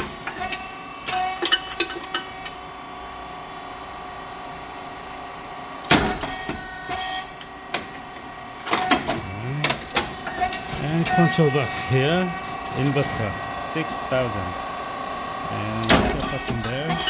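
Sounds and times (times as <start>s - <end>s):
hydraulic motor and pump hum: 0.0s - 17.0s.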